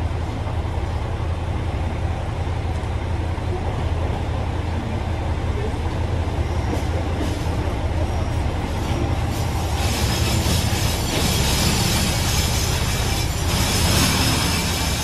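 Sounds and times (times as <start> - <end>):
diesel railcar rumble: 0.0 - 15.0
wheels and brakes hissing on rails: 0.0 - 15.0.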